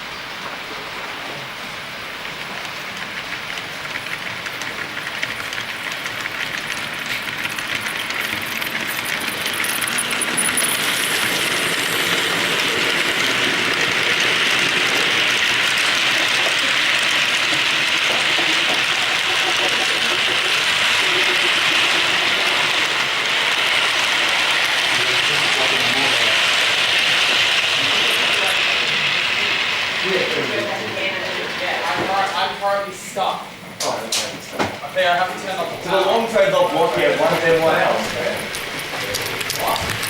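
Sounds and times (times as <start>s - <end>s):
model train wheels clicking on rails: 0.9s - 32.7s, 33.8s - 40.0s.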